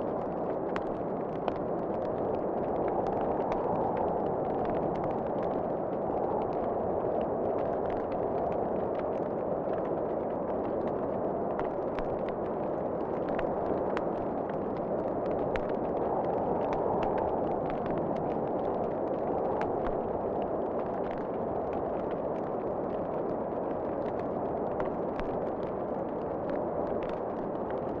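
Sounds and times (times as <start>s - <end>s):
low rush of wind: 0.0s - 28.0s
wood fire crackling and popping: 0.1s - 28.0s.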